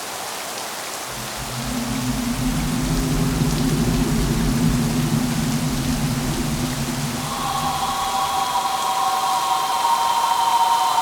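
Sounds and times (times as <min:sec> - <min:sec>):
rain-like hiss: 0:00.0 - 0:11.0
eerie wavering tone: 0:01.1 - 0:11.0.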